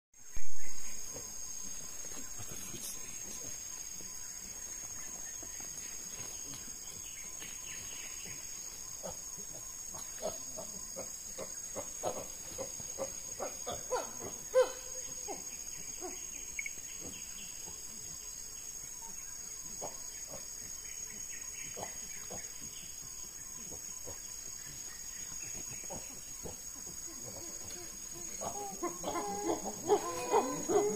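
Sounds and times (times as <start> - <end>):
insects chorus: 0.2 - 30.9.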